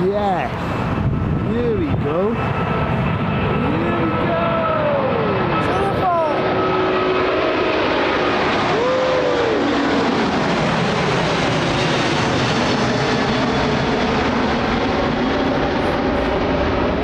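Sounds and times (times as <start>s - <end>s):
jet engine roar overhead: 0.0s - 17.0s.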